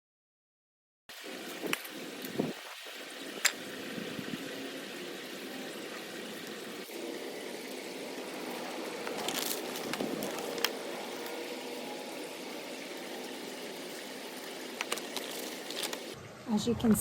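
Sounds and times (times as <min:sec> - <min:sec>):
trickling rainwater: 0:01.1 - 0:16.2.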